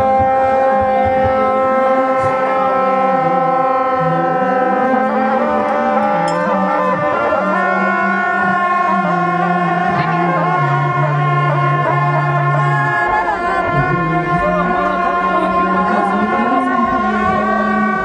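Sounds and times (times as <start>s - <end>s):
ritual horns playing held notes: 0.0s - 18.0s.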